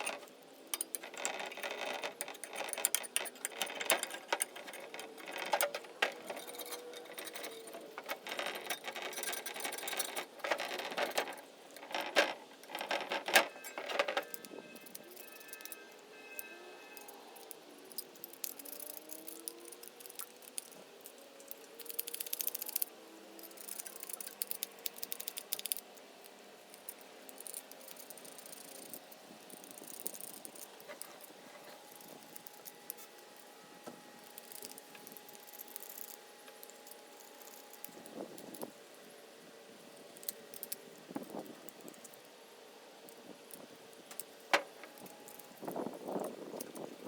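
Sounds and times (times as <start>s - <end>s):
small metal parts rattling: 0.0s - 33.2s, 34.2s - 38.8s.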